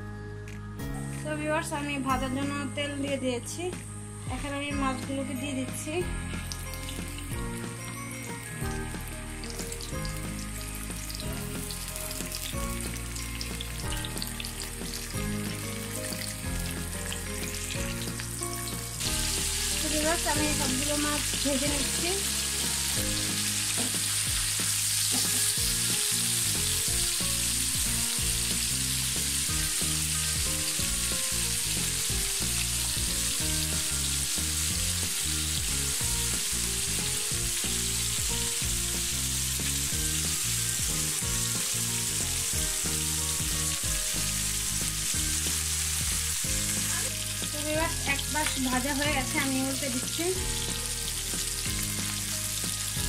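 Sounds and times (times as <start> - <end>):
fish sizzling in hot oil: 4.1 - 53.0.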